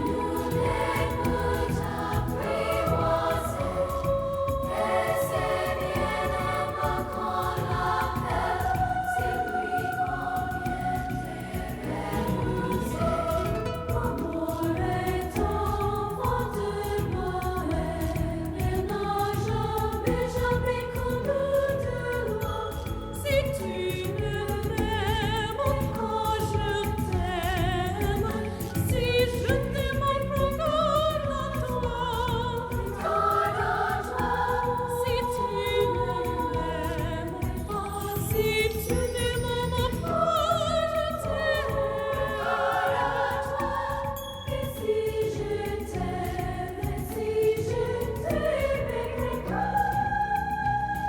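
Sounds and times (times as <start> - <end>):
person singing with vibrato: 0.0 - 51.0
steady musical accompaniment: 0.0 - 51.0.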